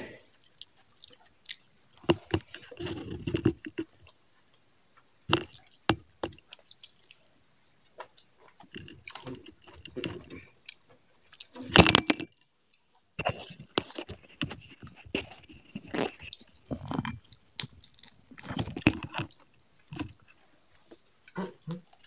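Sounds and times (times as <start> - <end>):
chewing and mouth smacks: 0.3 - 4.6, 5.3 - 22.0
sharp clicks and crunches: 0.4 - 4.5, 5.3 - 7.3, 7.9 - 12.5, 13.2 - 22.0.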